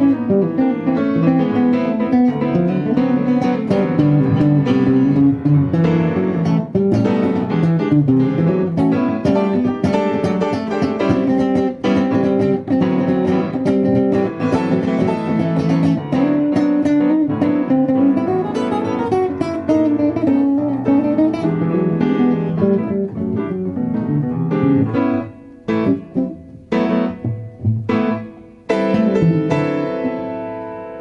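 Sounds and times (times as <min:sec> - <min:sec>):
blues guitar playing: 0:00.0 - 0:31.0.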